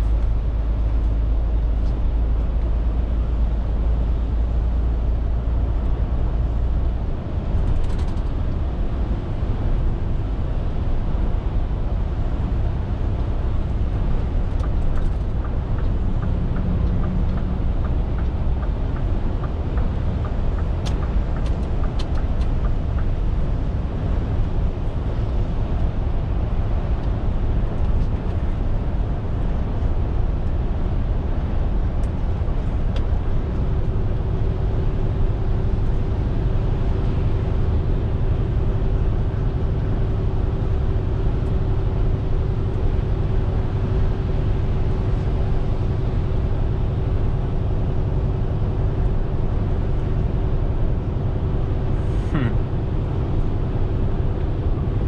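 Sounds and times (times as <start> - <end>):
lorry engine and road rumble: 0.0 - 55.0.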